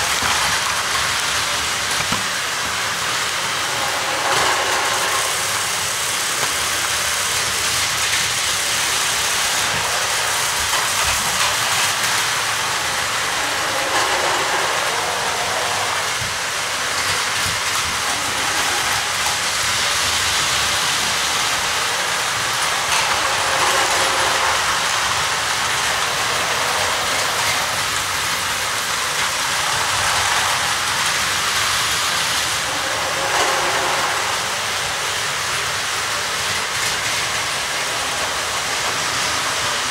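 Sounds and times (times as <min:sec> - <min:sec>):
toy train motors whirring: 0:00.0 - 0:39.9
wheels rattling on plastic track: 0:00.0 - 0:39.9.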